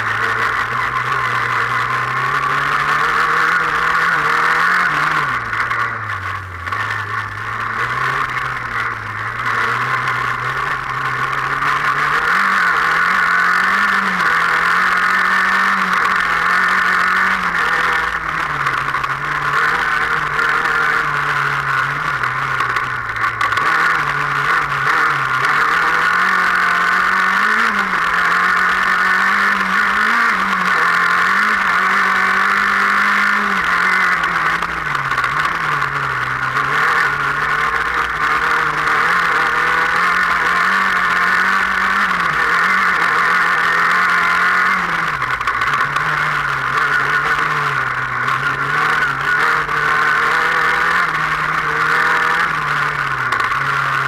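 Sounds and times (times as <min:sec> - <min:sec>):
racing car engine revving: 0:00.0 - 0:54.0.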